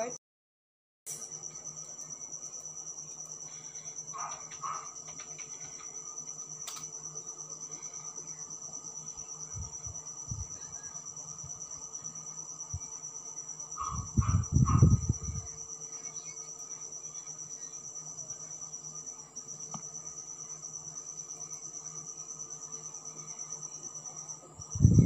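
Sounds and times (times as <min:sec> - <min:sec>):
cricket trilling: 0:01.1 - 0:25.0
low electrical hum: 0:01.1 - 0:25.0.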